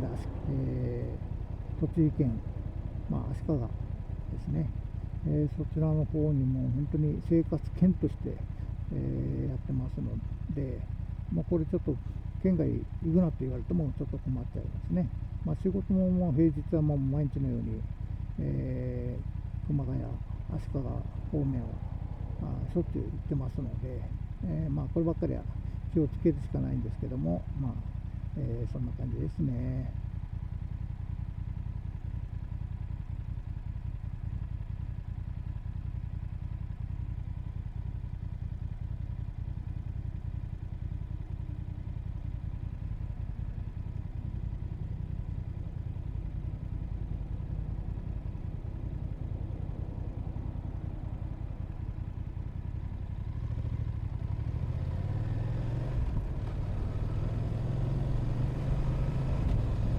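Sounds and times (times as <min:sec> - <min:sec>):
motorcycle engine accelerating: 0:00.0 - 0:15.4, 0:16.4 - 0:25.8, 0:29.6 - 0:59.9.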